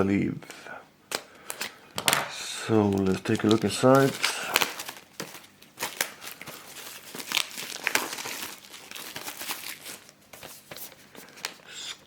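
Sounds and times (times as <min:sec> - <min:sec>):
plastic wrap crinkling and tearing: 0:01.1 - 0:11.6.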